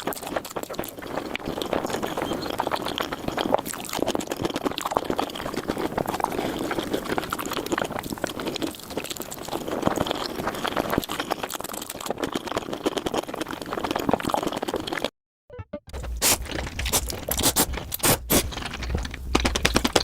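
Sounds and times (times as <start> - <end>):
wet chewing and slurping: 0.0 - 15.1, 16.0 - 20.0.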